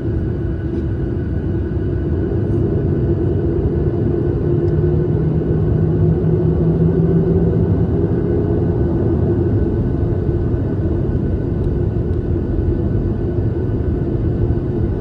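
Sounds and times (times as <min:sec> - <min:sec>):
constant hum: 0:00.0 - 0:15.0
jet engine cabin drone: 0:00.0 - 0:15.0
lower hum: 0:00.0 - 0:15.0.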